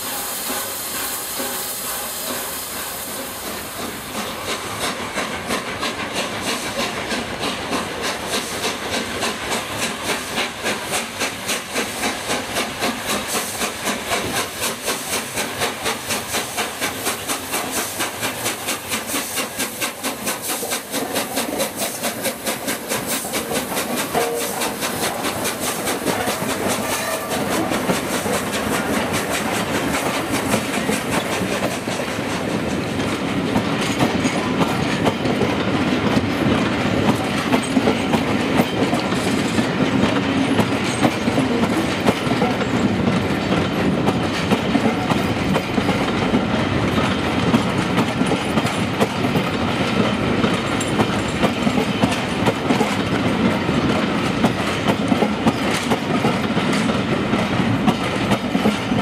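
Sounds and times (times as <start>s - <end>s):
steam locomotive beat: 0.0s - 59.0s
train wheels clattering over joints: 0.0s - 59.0s.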